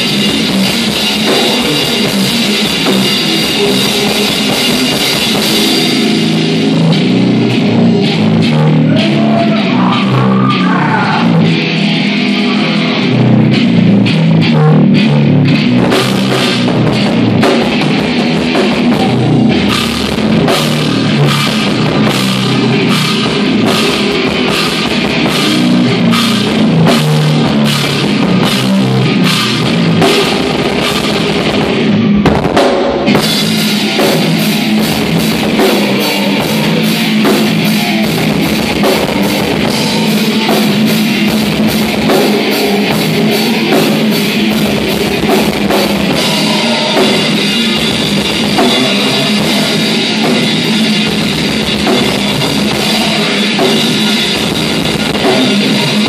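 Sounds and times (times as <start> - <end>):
drum kit pounding: 0.0 - 56.0
electric guitar: 0.0 - 56.0.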